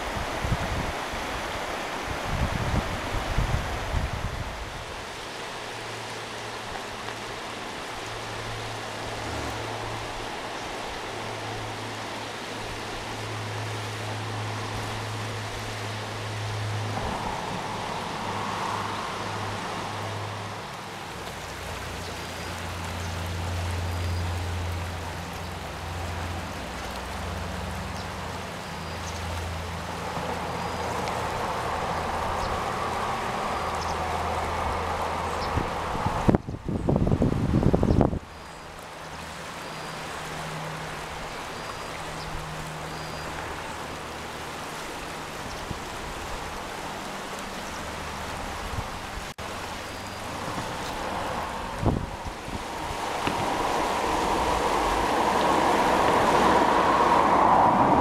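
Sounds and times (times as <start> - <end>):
rush of flowing water: 0.0 - 58.0.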